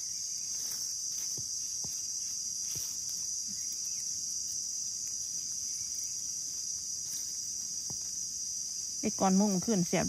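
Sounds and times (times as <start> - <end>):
dry leaves rustling: 0.0 - 10.0
insects chorus: 0.0 - 10.0.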